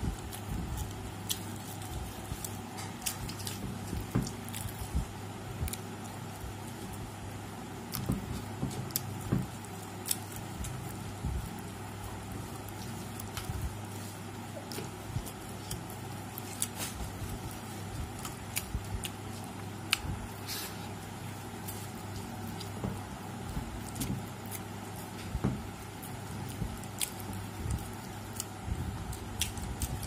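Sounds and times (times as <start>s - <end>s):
chewing: 0.0s - 7.1s, 7.8s - 30.0s
steady low hum: 0.0s - 30.0s.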